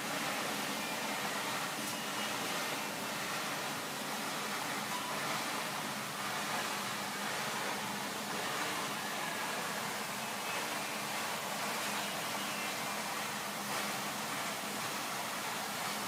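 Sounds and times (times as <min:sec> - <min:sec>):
trimming machine running: 0:00.0 - 0:16.0.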